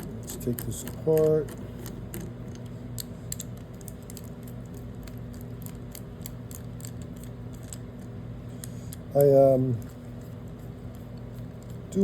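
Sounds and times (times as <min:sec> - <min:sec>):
metal parts clicking and tapping: 0:00.0 - 0:10.0
steady low hum: 0:00.0 - 0:12.0.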